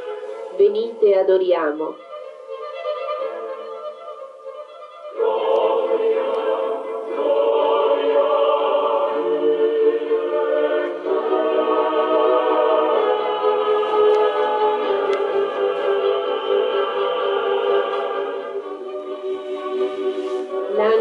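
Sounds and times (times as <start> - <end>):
choir singing sustained chords: 0.0 - 21.0.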